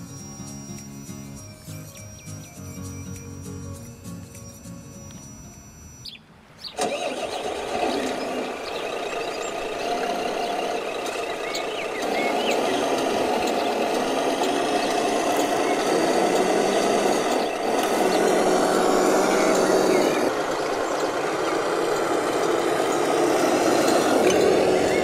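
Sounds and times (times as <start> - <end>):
toy truck motor running: 0.0 - 6.2, 6.8 - 25.0.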